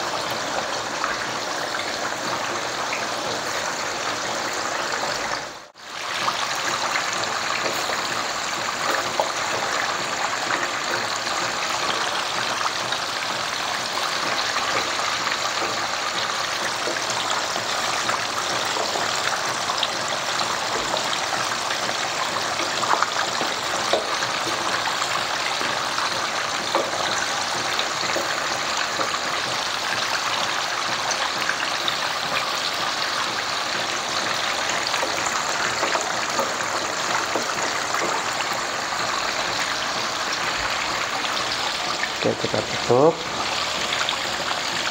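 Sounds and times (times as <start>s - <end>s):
gravy bubbling in a wok: 0.0s - 44.9s.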